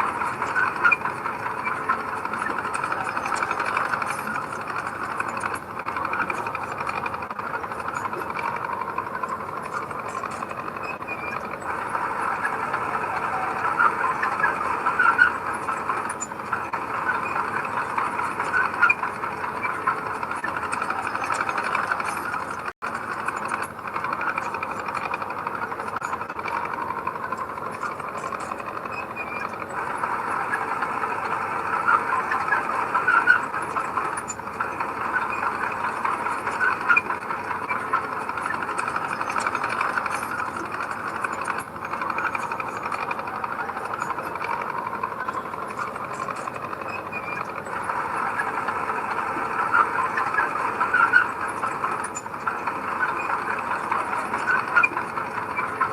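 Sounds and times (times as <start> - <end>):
diesel engine of heavy machinery: 0.0 - 55.9
scattered squeaks: 0.0 - 55.9.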